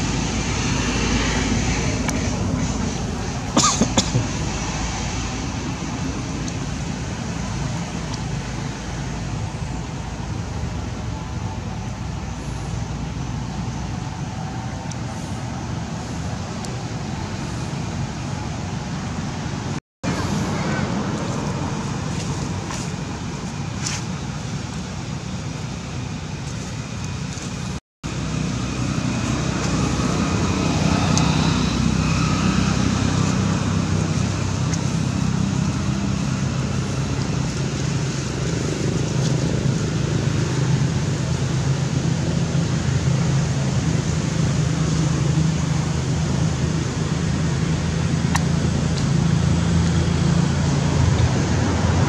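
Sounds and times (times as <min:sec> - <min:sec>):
low engine rumble with hum: 0:00.0 - 0:52.0.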